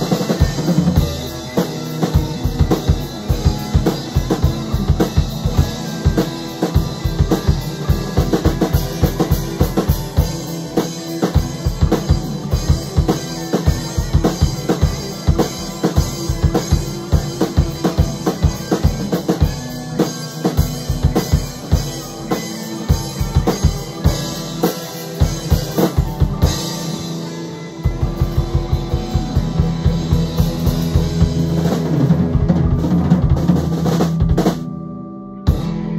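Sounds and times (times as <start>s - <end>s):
drum kit beat: 0.0s - 34.7s, 35.5s - 35.9s
electric guitars: 0.0s - 35.9s.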